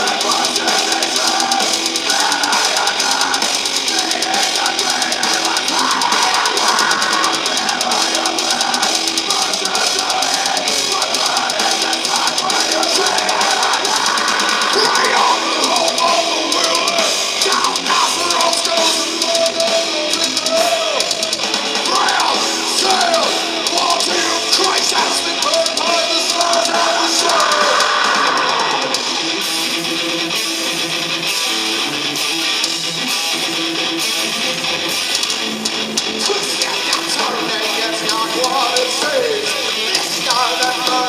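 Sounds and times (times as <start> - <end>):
distorted electric guitar: 0.0 - 41.0
drum kit: 0.0 - 41.0.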